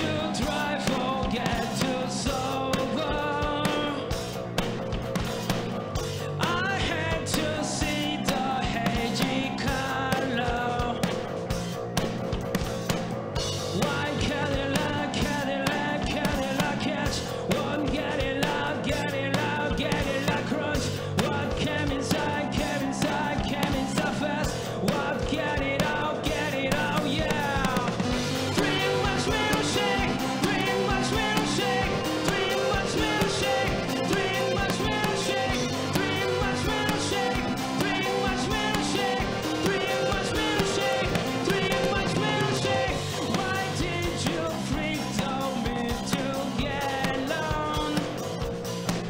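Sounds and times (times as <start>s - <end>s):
man singing: 0.0s - 4.2s, 6.2s - 11.2s, 13.7s - 48.2s
punk rock band playing: 0.0s - 49.0s.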